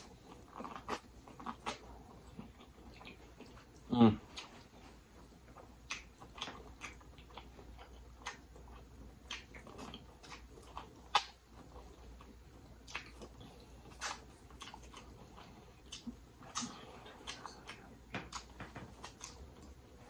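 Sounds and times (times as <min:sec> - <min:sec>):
person chewing with wet smacks: 0:00.0 - 0:20.0.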